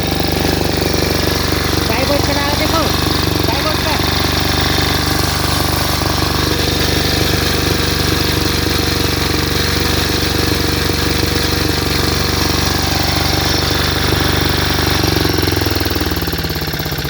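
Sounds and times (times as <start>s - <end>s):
generator engine clattering: 0.0s - 17.0s.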